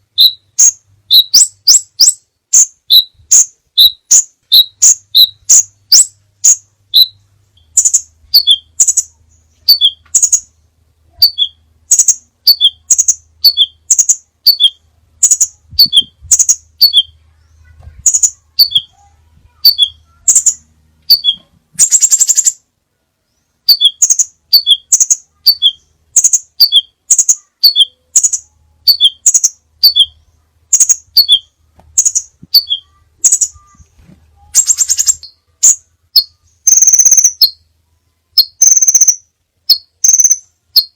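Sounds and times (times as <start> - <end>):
buzzy bird trill: 0.0 - 37.7, 38.3 - 40.9
bird calling high sharp notes: 0.2 - 10.5, 11.2 - 17.2, 18.1 - 19.0, 19.6 - 22.6, 23.6 - 37.6, 38.4 - 40.9.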